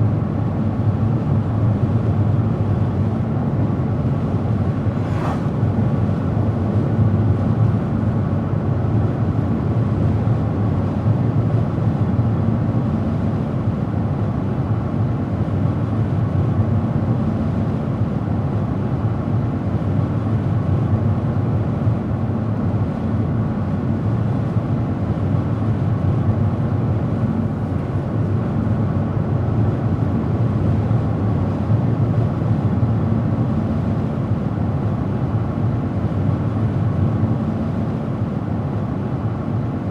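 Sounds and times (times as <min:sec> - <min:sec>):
car driving at steady speed: 0:00.0 - 0:39.9.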